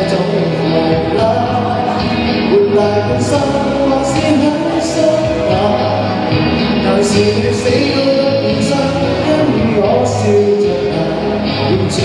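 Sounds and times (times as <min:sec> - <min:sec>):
backing track: 0:00.0 - 0:12.0
man singing pop song: 0:00.0 - 0:12.0.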